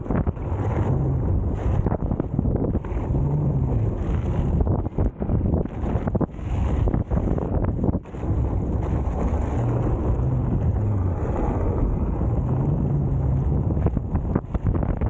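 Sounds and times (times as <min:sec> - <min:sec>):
wind buffeting microphone: 0:00.0 - 0:15.0
tyre rolling on dirt road: 0:00.4 - 0:14.8.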